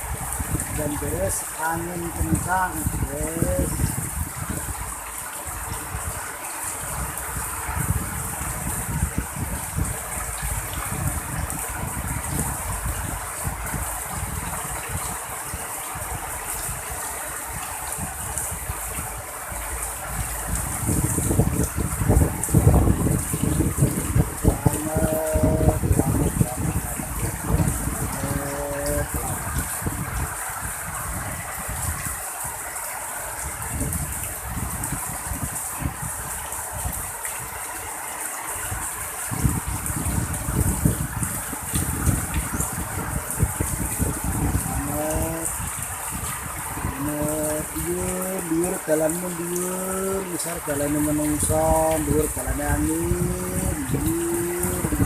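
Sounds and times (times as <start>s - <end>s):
heavy rain: 0.0s - 55.0s
wind gusts on microphone: 0.0s - 55.0s.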